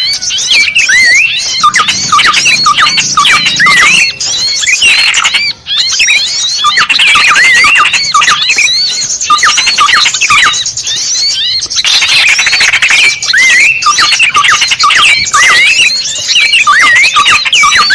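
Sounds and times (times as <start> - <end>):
small songbirds chirping: 0.0 - 17.9.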